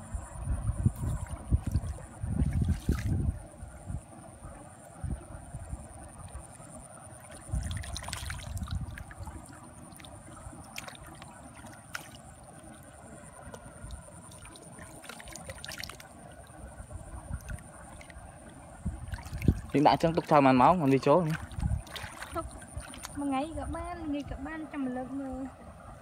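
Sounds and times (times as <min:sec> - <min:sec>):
water trickling and splashing: 0:00.6 - 0:26.0.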